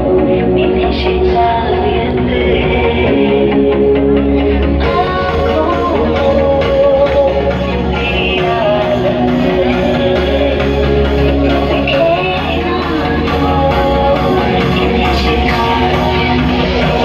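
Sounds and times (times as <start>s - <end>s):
dance music with singing: 0.0s - 17.0s
heavy bass: 0.0s - 17.0s.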